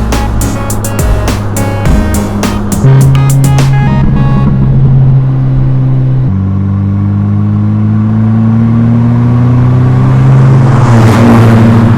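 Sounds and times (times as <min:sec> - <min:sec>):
car engine accelerating with gear shift: 0:00.0 - 0:11.9.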